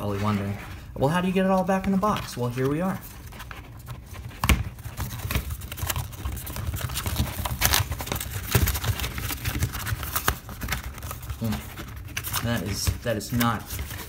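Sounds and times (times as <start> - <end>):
cardboard scraping against plastic: 0.0 - 14.0.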